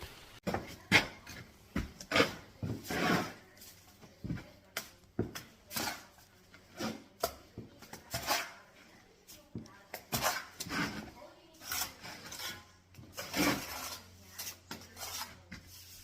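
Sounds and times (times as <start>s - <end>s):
steel trowel scraping and knocking: 0.5s - 16.0s.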